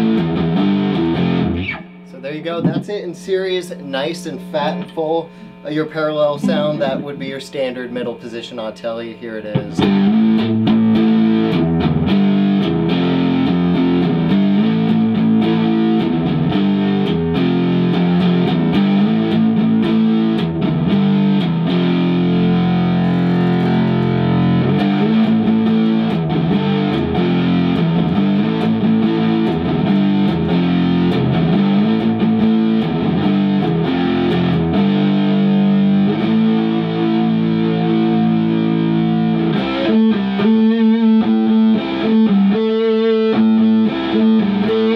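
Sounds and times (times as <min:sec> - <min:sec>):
electric guitar chord riff: 0:00.0 - 0:44.9.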